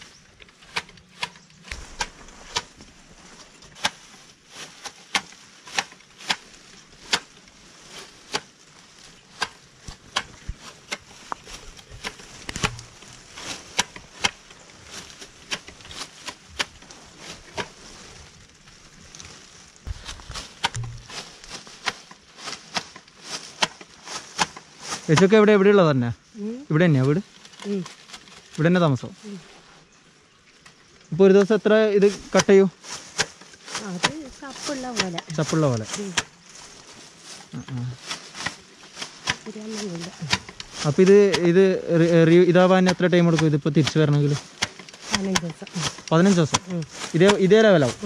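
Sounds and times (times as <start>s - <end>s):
shears snipping bushes: 0.0s - 25.6s, 27.1s - 29.6s, 31.4s - 48.0s.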